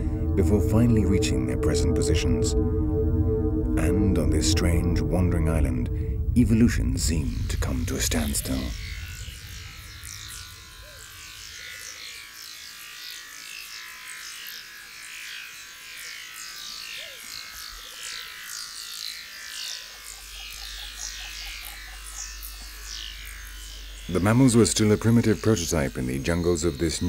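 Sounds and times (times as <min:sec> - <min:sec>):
insects chirping: 0:00.0 - 0:27.0.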